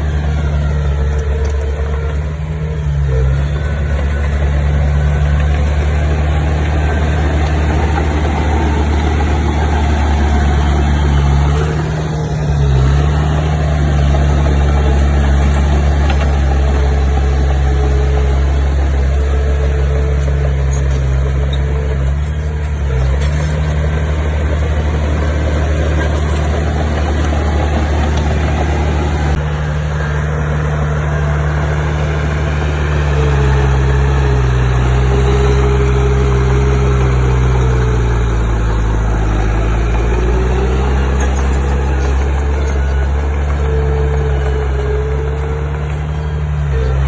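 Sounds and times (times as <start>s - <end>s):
diesel engine drone: 0.0s - 47.0s
engine whine: 0.0s - 47.0s.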